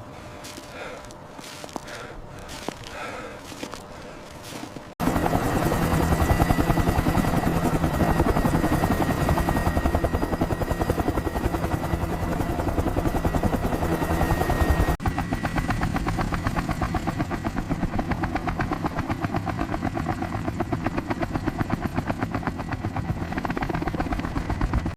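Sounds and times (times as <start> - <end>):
helicopter rotors chopping: 0.0 - 24.9.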